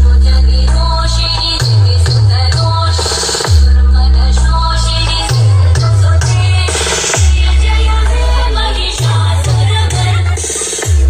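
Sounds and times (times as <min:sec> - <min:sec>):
loud electronic dance music: 0:00.0 - 0:11.0
sliding bass notes: 0:00.0 - 0:11.0.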